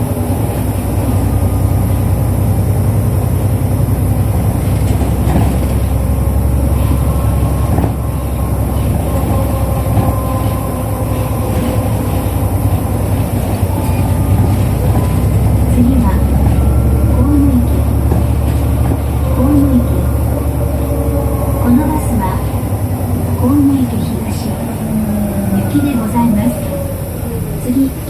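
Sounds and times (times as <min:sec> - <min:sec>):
bus engine and road rumble: 0:00.0 - 0:28.0
faint whine: 0:00.0 - 0:28.0.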